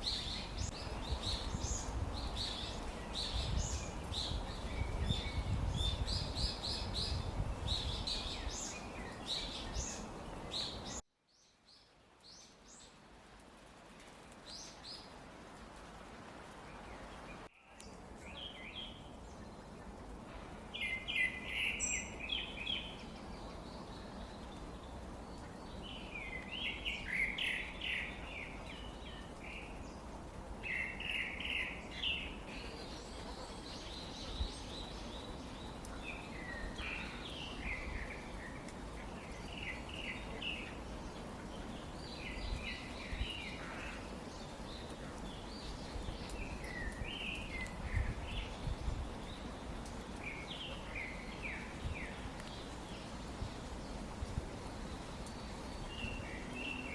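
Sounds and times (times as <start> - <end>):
low background hiss: 0.0 - 56.9.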